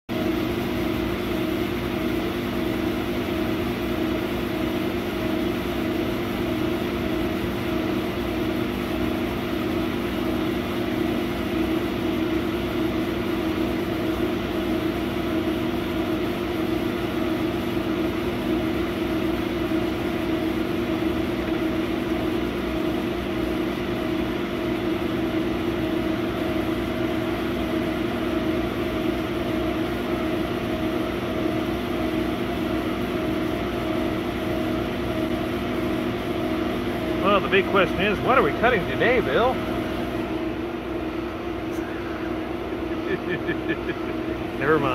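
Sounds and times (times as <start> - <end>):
laser cutter humming: 0.1 - 44.9.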